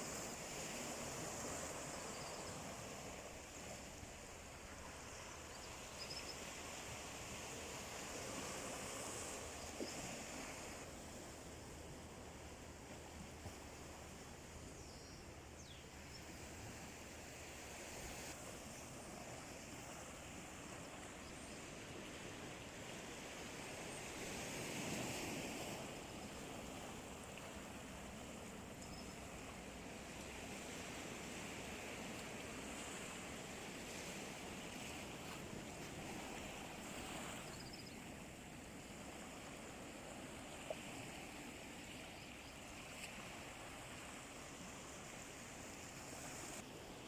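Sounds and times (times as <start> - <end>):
sea waves washing on shore: 0.0 - 47.0.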